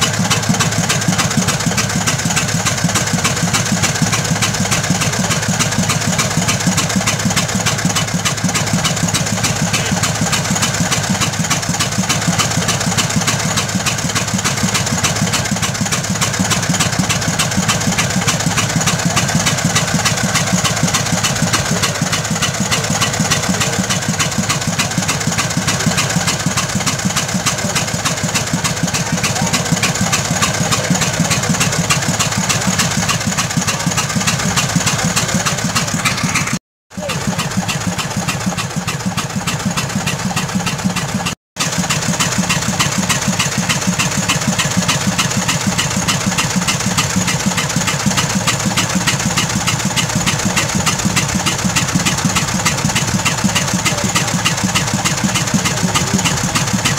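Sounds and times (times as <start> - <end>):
gasoline engine running: 0.0 - 56.9
hose stream of water: 0.0 - 56.9.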